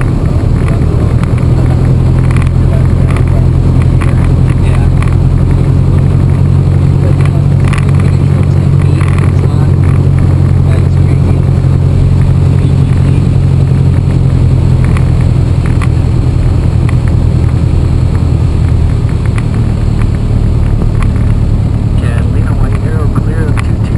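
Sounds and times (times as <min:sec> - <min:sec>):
propeller plane engine droning: 0:00.0 - 0:23.9.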